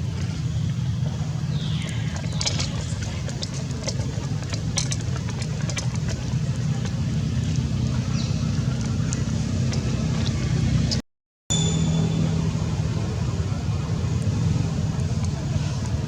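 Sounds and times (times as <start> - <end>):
engine hum: 0.0 - 16.0.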